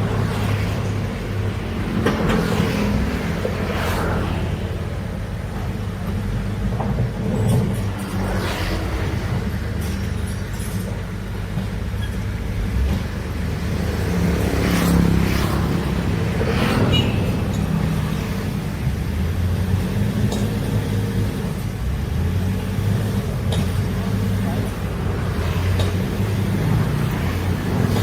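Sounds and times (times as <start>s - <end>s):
diesel excavator engine rumbling: 0.0s - 28.0s.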